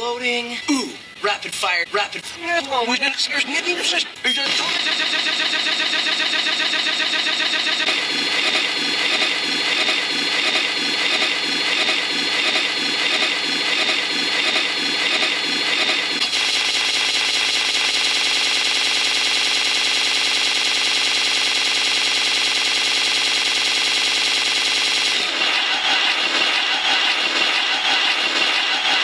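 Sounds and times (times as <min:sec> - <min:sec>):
harsh stuttering looped sound effects: 0:00.0 - 0:29.0.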